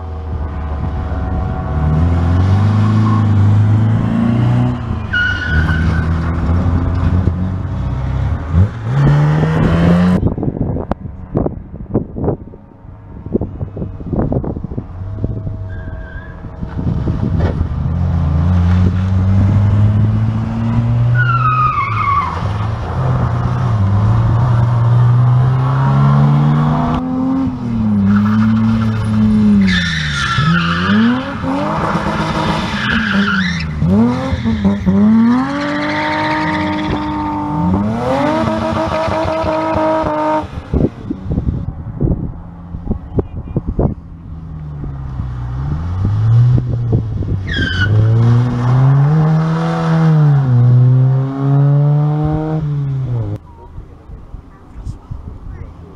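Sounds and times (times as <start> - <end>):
rally car engines revving past: 0.0 - 11.5, 13.2 - 53.4.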